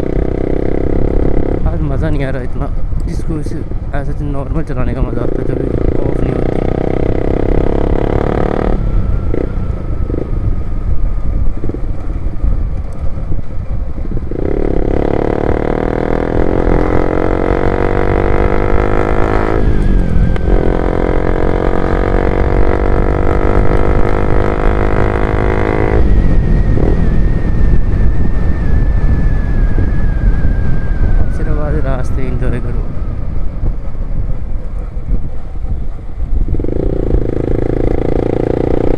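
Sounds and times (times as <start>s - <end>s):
motorcycle engine revving: 0.0s - 3.2s, 4.7s - 38.9s.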